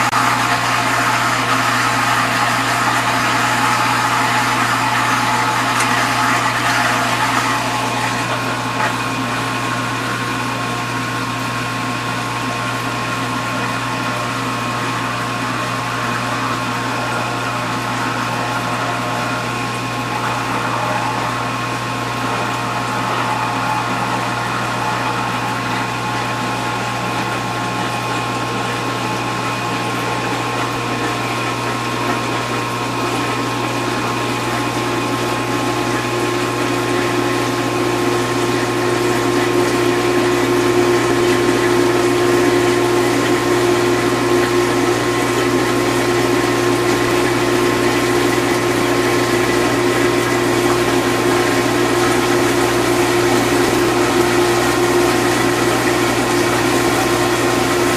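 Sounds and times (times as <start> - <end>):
dishwasher motor humming: 0.0 - 57.9.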